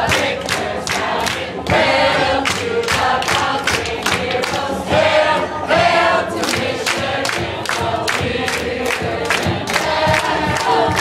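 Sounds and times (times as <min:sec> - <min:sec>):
crowd singing along: 0:00.0 - 0:11.0.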